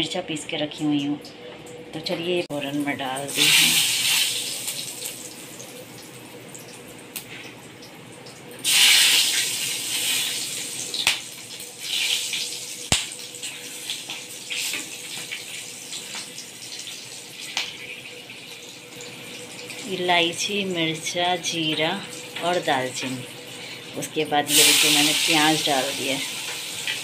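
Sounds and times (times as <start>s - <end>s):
spices sizzling in hot oil: 2.5s - 27.0s.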